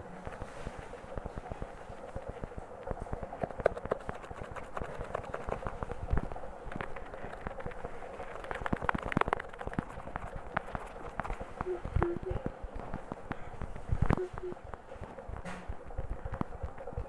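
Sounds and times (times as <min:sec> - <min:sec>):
patter of small clicks and taps: 0:00.2 - 0:17.0.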